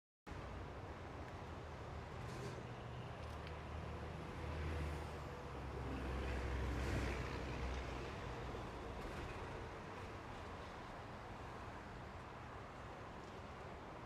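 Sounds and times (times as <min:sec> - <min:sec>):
road traffic rumble: 0:00.3 - 0:14.0.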